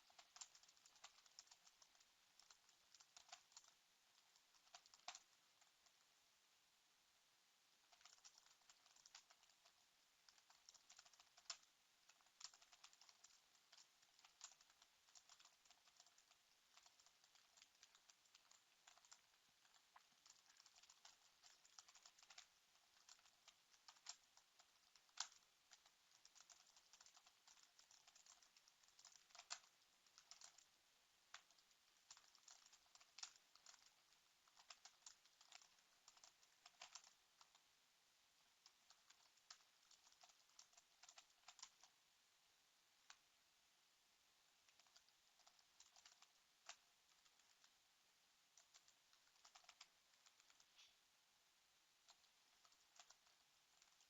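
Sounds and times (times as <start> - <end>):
keyboard typing: 0.0 - 6.0, 7.8 - 30.7, 31.3 - 37.6, 38.6 - 42.0, 44.7 - 47.8, 48.5 - 50.9, 52.0 - 54.0.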